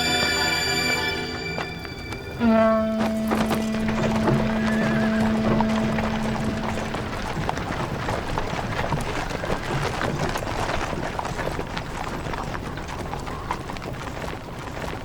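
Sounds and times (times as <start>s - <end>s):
horses galloping: 0.0s - 15.0s.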